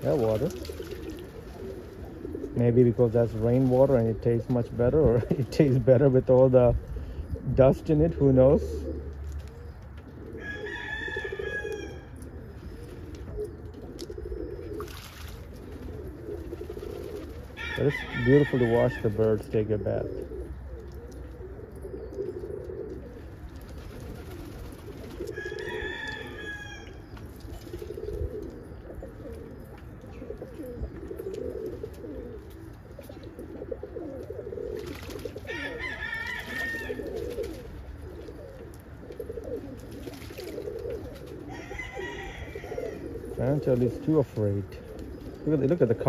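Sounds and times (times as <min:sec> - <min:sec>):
pigeons cooing: 0:00.0 - 0:46.0.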